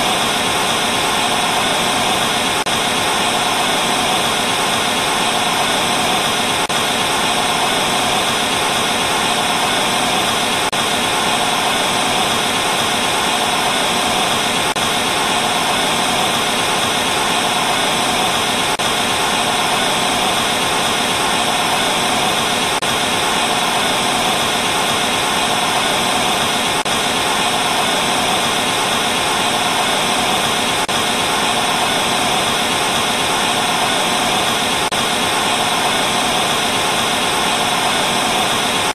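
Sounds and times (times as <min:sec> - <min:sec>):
tv static hiss: 0:00.0 - 0:38.9.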